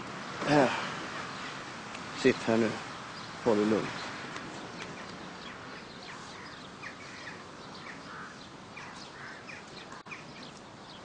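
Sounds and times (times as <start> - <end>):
faint background hiss: 0.0 - 11.0
small birds chirping: 0.0 - 11.0.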